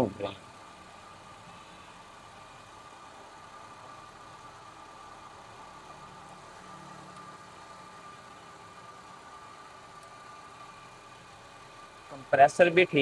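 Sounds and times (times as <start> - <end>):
car engine idling: 0.0 - 13.0
thin steady whine: 0.0 - 13.0.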